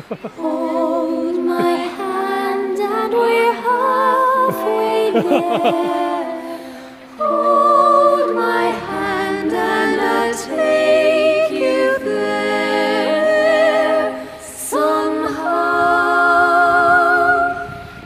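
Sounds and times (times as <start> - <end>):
person singing with vibrato: 0.2 - 18.0.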